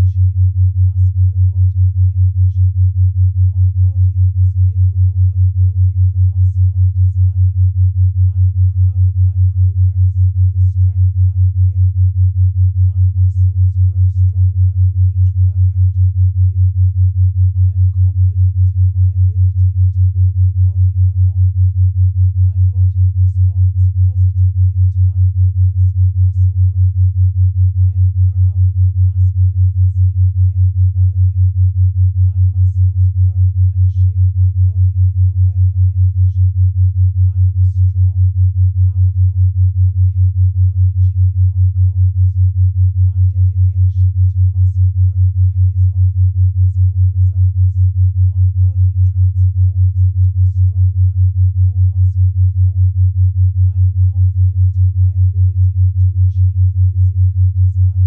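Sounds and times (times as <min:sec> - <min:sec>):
pulsing low sine tone: 0:00.0 - 0:58.0.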